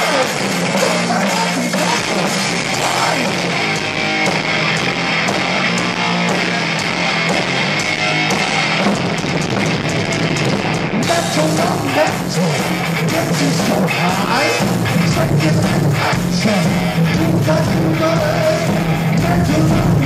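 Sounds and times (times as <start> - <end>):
heavy metal band playing live: 0.0 - 20.0.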